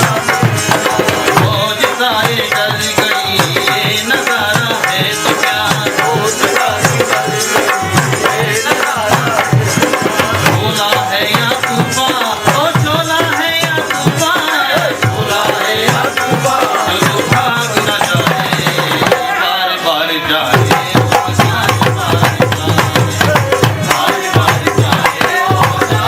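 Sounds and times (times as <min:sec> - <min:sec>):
hand drums fast beat: 0:00.0 - 0:19.5, 0:20.5 - 0:26.0.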